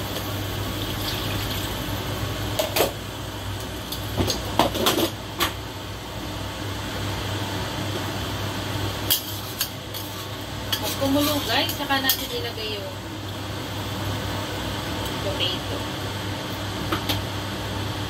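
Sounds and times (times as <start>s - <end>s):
kitchen hum: 0.0s - 18.0s.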